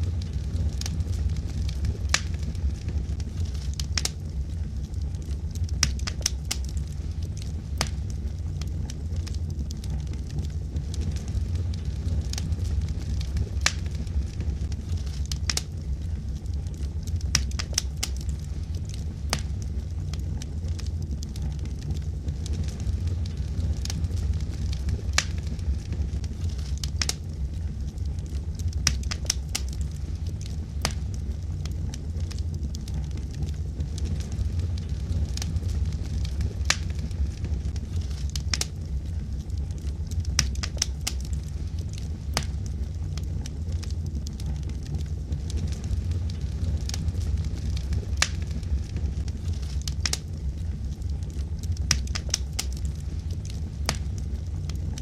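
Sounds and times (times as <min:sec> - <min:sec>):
low rumble of flames: 0:00.0 - 0:55.0
wood crackling and popping: 0:00.0 - 0:55.0.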